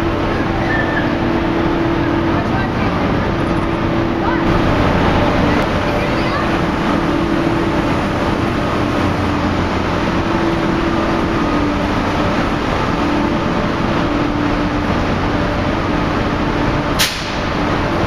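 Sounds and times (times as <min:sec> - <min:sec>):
steady hum tone: 0:00.0 - 0:18.0
train equipment mechanical drone: 0:00.0 - 0:18.0.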